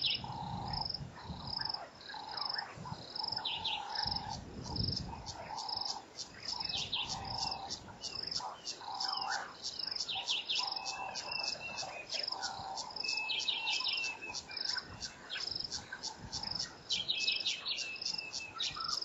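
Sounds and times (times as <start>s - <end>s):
wild birds calling: 0.0s - 19.0s.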